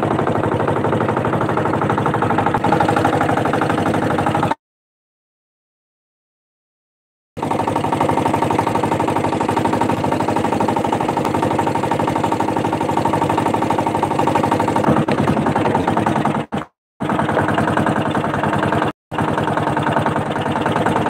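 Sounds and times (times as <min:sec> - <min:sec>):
boat engine running steadily: 0:00.0 - 0:04.6, 0:07.4 - 0:21.0.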